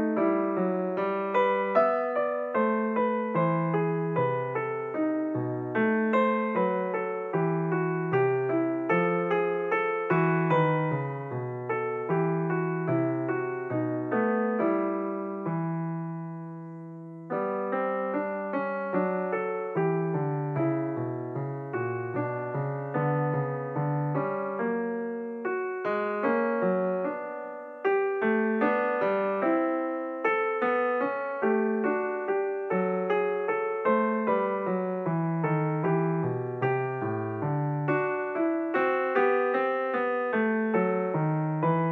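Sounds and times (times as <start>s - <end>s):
piano music: 0.0s - 41.9s.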